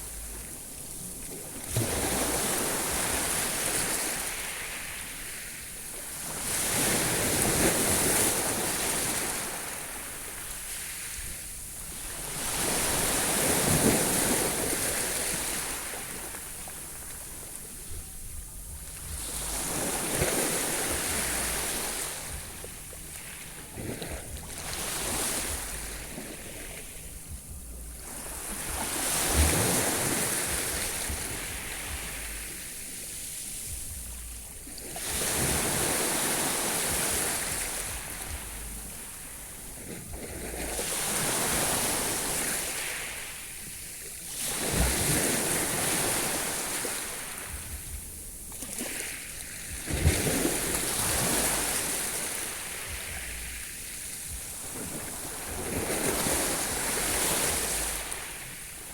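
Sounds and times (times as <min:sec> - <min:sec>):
sea waves washing onto shore: 0:00.0 - 0:58.9
wind buffeting microphone: 0:06.1 - 0:43.7, 0:44.5 - 0:58.9.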